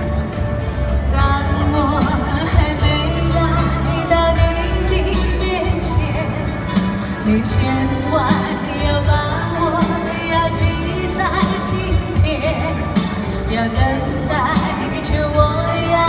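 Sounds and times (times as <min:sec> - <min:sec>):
backing track with steady beat: 0:00.0 - 0:16.0
woman singing into microphone: 0:01.0 - 0:16.0.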